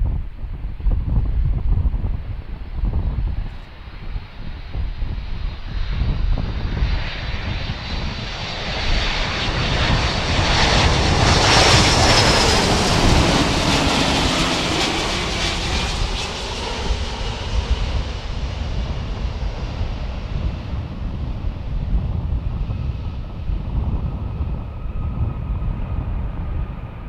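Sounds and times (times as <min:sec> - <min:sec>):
jet aircraft engines with whine: 0:00.0 - 0:27.0
wind rumble on microphone: 0:00.0 - 0:27.0.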